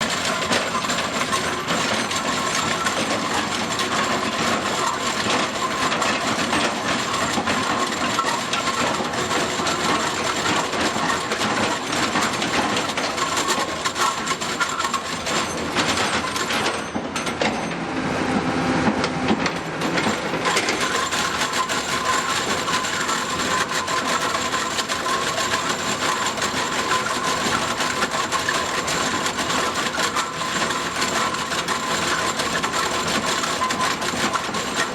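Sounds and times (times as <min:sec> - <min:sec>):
drum cutter grinding rock: 0:00.0 - 0:16.7, 0:19.3 - 0:34.9.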